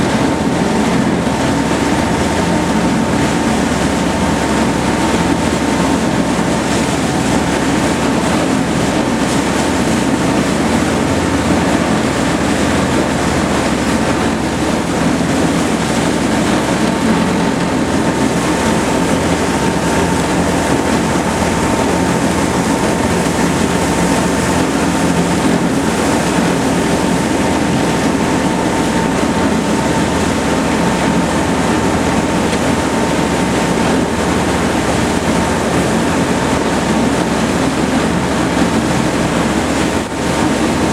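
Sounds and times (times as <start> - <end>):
machine rumble: 0.0 - 40.9.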